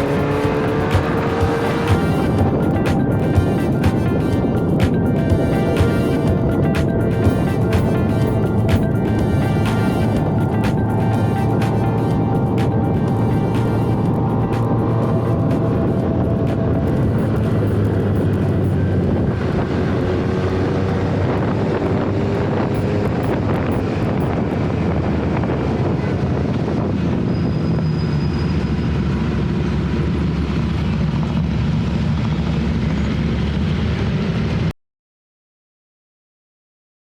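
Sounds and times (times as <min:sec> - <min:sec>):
motorcycle engine drone: 0:00.0 - 0:34.7
wind noise on microphone: 0:00.0 - 0:34.7.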